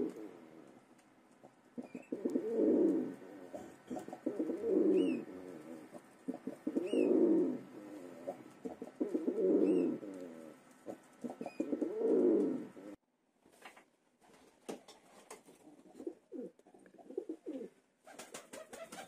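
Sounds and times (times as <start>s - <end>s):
pigeon cooing: 0.0s - 0.8s, 1.8s - 13.0s, 15.6s - 19.0s.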